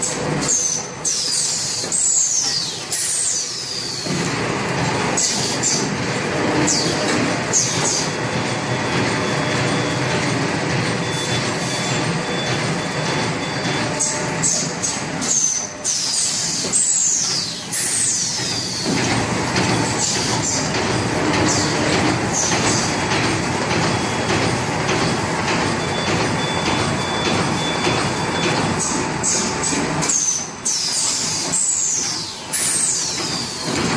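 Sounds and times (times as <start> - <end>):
machines clattering and hissing: 0.0 - 33.9.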